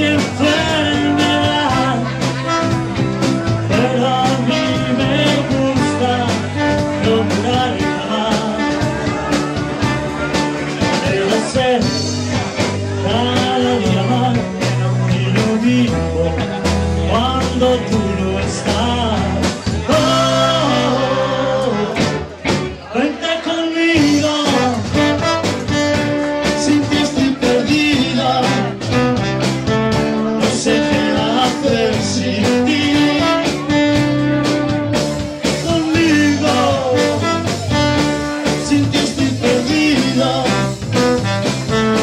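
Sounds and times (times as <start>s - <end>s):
trombone melody: 0.0s - 22.4s, 24.0s - 42.0s
live rock and roll band: 0.0s - 42.0s.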